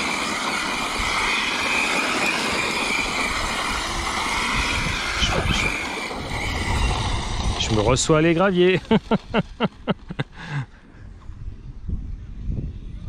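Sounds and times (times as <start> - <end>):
rc truck motor whine: 0.0 - 13.0.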